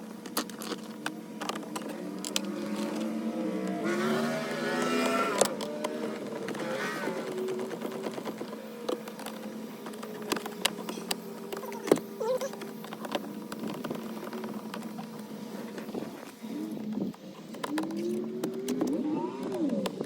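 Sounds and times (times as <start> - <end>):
clicks of plastic parts handled: 0.1 - 3.8, 4.6 - 20.0.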